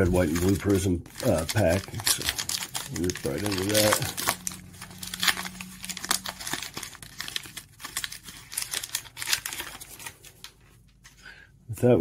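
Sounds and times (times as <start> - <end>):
plastic wrapper crinkling: 0.0 - 11.2.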